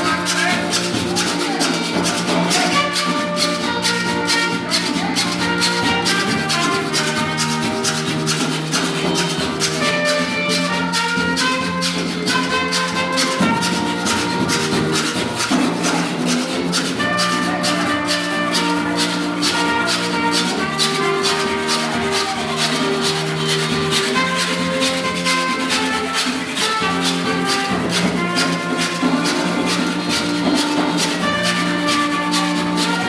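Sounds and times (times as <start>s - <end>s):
hand saw scraped rhythmically: 0.0s - 33.0s
held melody notes: 0.0s - 33.0s.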